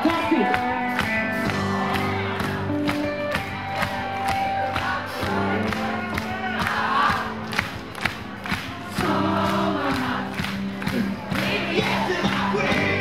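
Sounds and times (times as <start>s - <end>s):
crowd noise: 0.0s - 13.0s
funk band playing: 0.0s - 13.0s.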